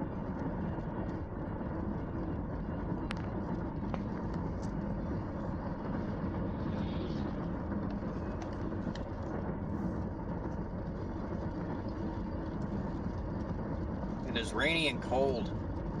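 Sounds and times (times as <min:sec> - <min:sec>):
car road and engine noise: 0:00.0 - 0:16.0
rain: 0:00.0 - 0:16.0.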